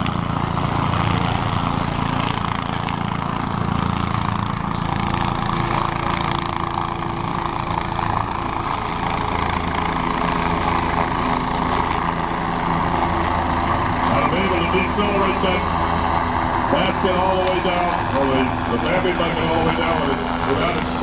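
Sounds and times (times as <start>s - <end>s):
helicopter rotor and engine drone: 0.0s - 21.0s.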